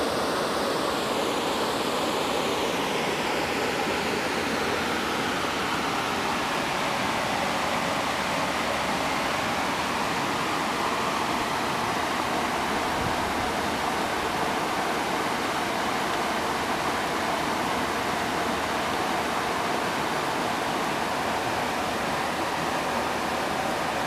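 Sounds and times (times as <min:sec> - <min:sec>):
heavy rain falling on trees: 0:02.3 - 0:24.0.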